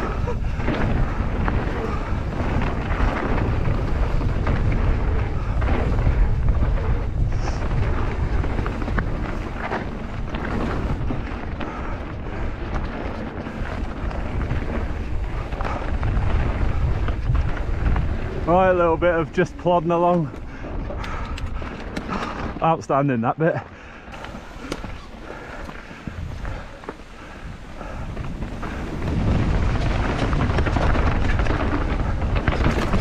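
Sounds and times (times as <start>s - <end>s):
bike rattles and knocks: 0.0s - 22.8s, 24.1s - 33.0s
tyres rumbling on ground: 0.0s - 22.9s, 24.1s - 33.0s
wind rushing over microphone: 0.0s - 22.9s, 23.9s - 33.0s.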